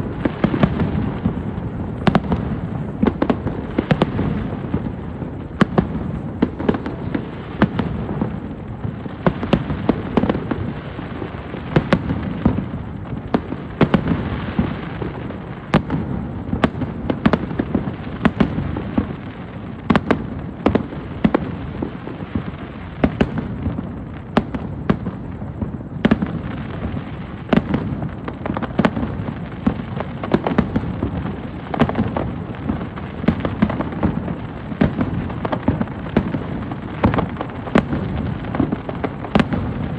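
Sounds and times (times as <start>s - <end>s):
fireworks bangs: 0.0s - 39.9s
rumble of fireworks bursts: 0.0s - 39.9s.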